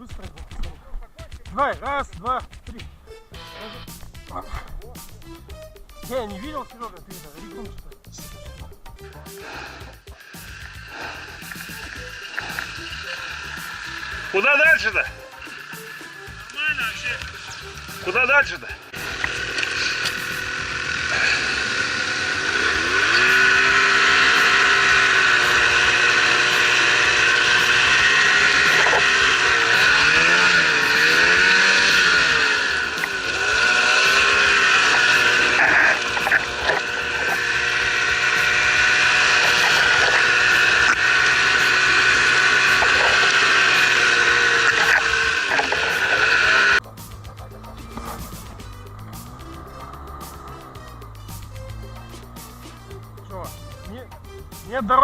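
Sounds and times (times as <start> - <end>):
snowmobile engine revving: 9.0 - 55.0.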